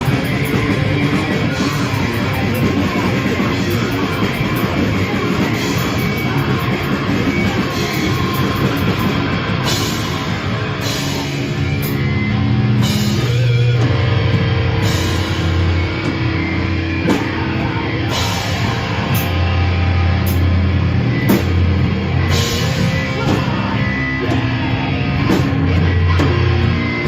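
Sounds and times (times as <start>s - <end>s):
distorted electric guitar riff: 0.0s - 27.0s
drums: 0.0s - 27.0s.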